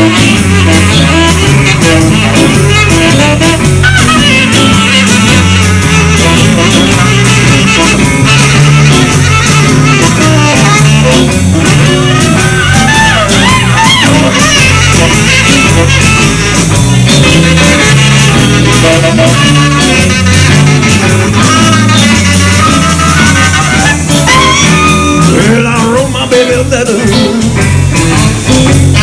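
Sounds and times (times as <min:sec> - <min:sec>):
tenor saxophone: 0:00.0 - 0:25.7, 0:27.1 - 0:29.0
live blues band playing: 0:00.0 - 0:29.0.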